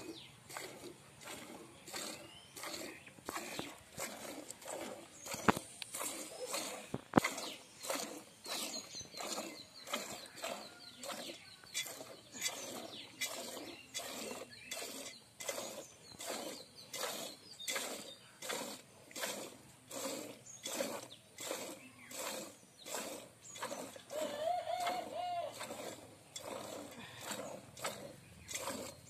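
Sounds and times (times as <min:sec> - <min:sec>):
milk squirting into steel pot: 0:00.5 - 0:29.0.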